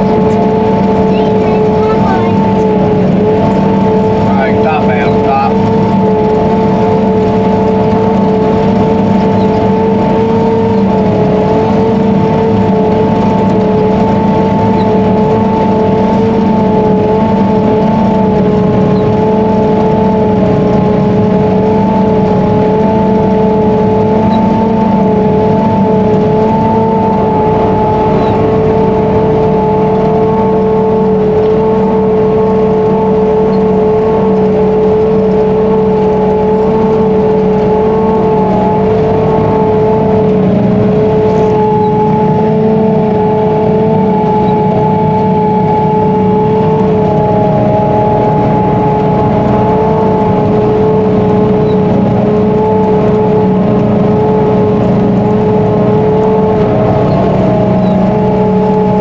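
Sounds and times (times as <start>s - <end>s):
forage harvester droning: 0.0s - 59.0s
steady whine: 0.0s - 59.0s.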